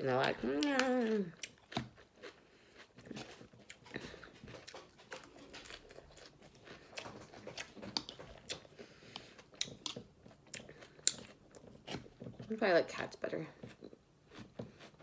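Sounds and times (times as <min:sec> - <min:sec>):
person chewing crunchy salad: 0:00.1 - 0:12.5, 0:13.5 - 0:15.0.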